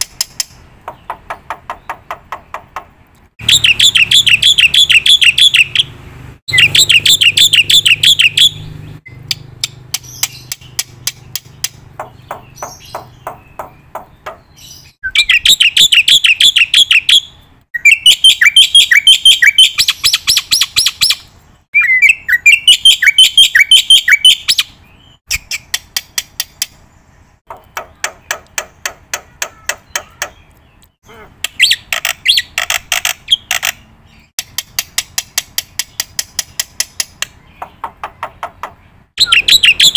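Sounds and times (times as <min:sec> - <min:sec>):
thin ticking bird notes: 0:00.0 - 0:05.9, 0:06.5 - 0:24.7, 0:25.3 - 0:39.9
bird rapid chirps: 0:00.0 - 0:39.9.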